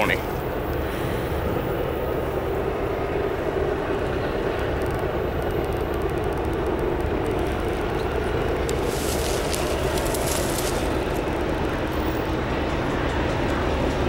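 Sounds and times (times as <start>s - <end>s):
distant diesel locomotives droning: 0.0s - 14.0s.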